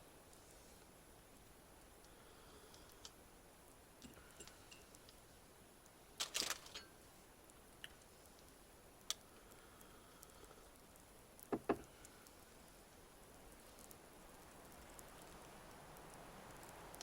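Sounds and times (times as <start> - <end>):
wood stove ticking and crackling: 0.0 - 17.0.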